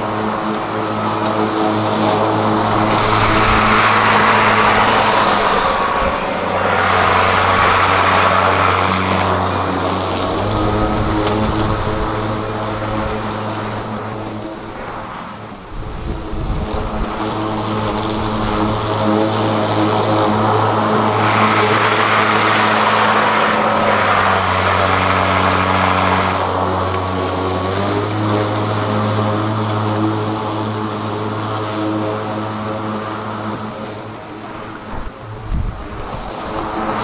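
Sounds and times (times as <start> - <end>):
wind buffeting microphone: 0.0 - 30.8, 31.8 - 37.0
lawn mower cutting grass: 0.0 - 37.0.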